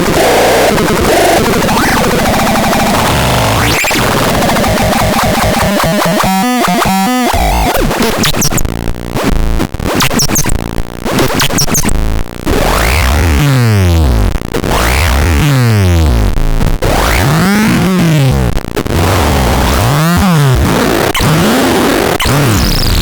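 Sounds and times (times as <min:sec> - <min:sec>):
harsh buzzing electronic noise: 0:00.0 - 0:23.0.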